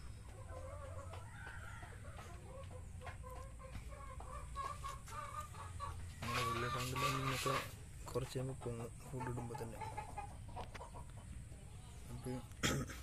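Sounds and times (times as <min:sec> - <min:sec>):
hen clucking: 0:00.0 - 0:13.0.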